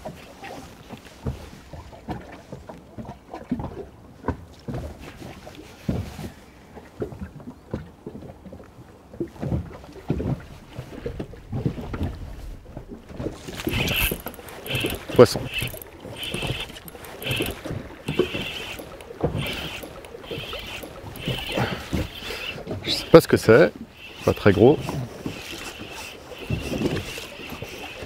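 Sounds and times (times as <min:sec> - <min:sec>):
small waves slapping boat: 0:00.0 - 0:28.0.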